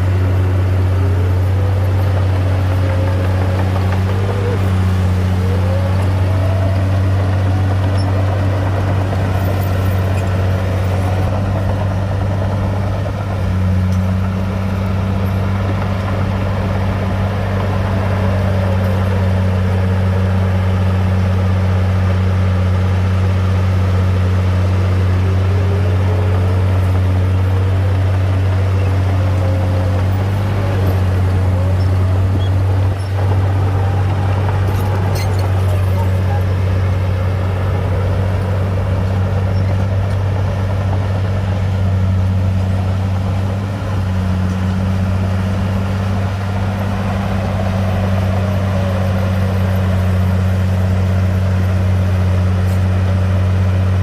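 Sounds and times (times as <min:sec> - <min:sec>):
bulldozer diesel engine drone: 0:00.0 - 0:54.0.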